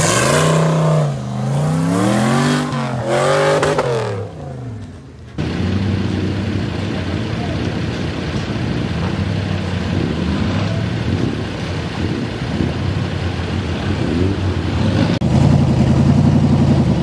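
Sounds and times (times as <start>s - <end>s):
engine pulling at low revs: 0.0s - 17.0s
engine revving: 0.0s - 17.0s.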